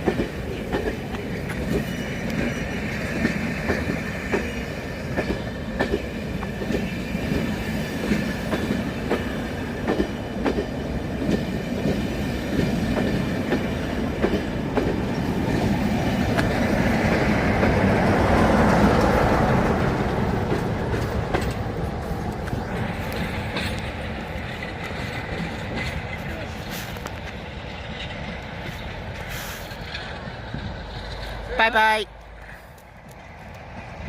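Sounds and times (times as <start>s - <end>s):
rush of passing carriages: 0.0s - 34.0s
train wheels clicking over rails: 0.0s - 34.0s.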